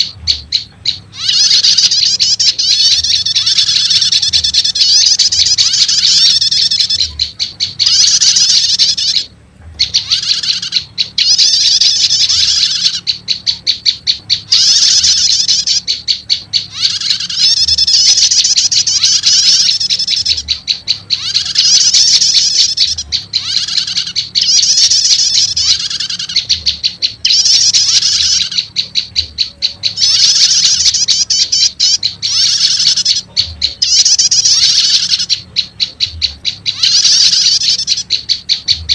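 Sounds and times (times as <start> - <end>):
bird chattering calls: 0.0 - 38.9
faint low hum: 0.0 - 38.9.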